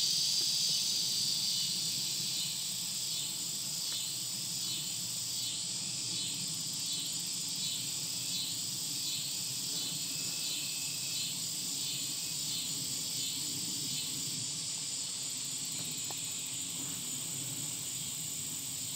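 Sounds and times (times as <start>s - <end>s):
high-pitched insect drone: 0.0s - 18.9s
pulsing insect call: 0.0s - 18.9s.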